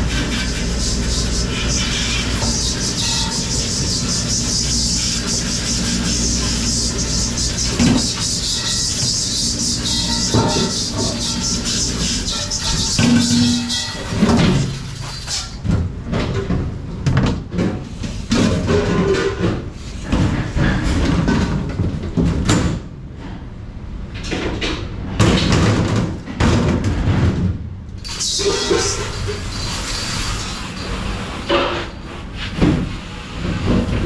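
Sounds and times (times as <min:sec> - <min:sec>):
dishes and racks clattering: 0:00.0 - 0:22.7, 0:28.0 - 0:34.0.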